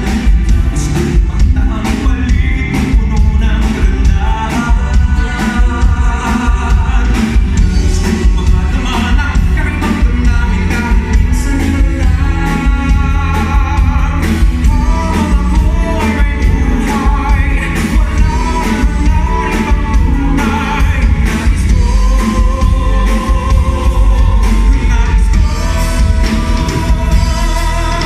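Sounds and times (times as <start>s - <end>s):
live pop-rock band: 0.0s - 28.0s
person singing: 0.0s - 28.0s.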